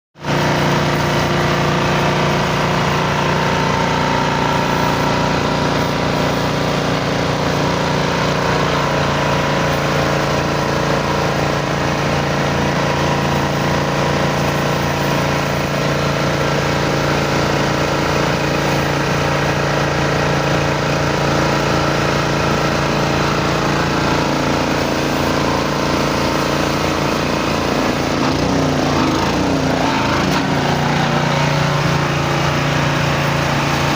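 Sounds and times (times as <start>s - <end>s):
generator engine running: 0.2s - 33.9s.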